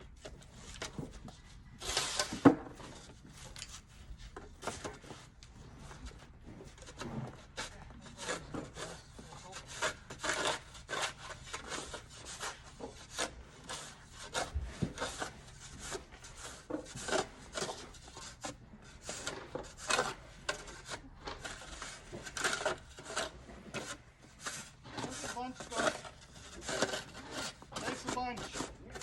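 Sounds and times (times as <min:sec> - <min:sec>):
hand tool scraping ice: 0:01.8 - 0:03.7, 0:05.8 - 0:29.0.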